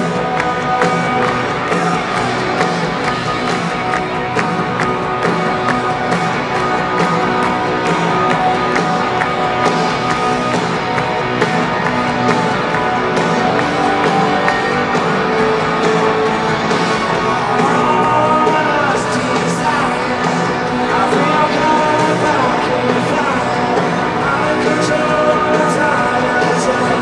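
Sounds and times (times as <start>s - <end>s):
electric guitars: 0.0s - 27.0s
fast drum beat: 0.0s - 27.0s.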